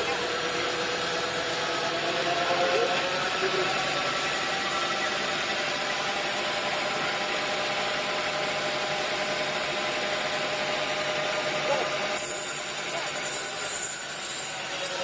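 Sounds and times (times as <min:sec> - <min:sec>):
sawmill machinery hum: 0:00.0 - 0:15.0.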